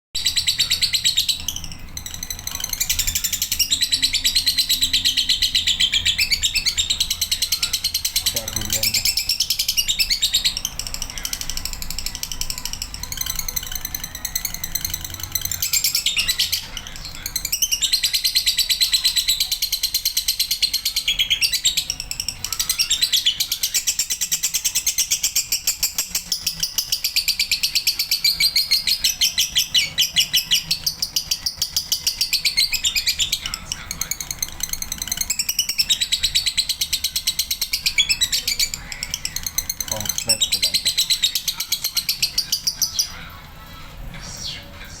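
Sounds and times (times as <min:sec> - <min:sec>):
lovebird chattering song: 0:00.2 - 0:45.0.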